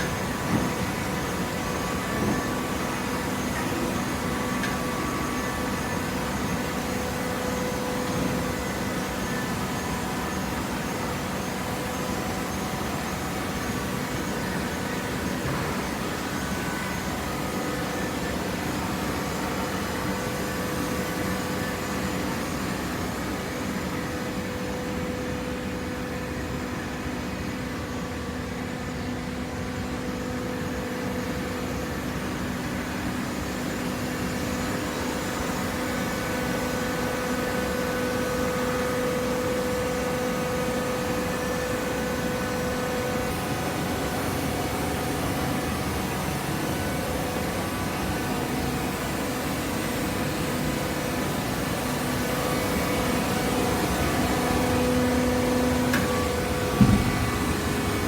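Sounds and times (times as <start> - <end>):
hydraulic pump hum and whine: 0.0 - 58.0.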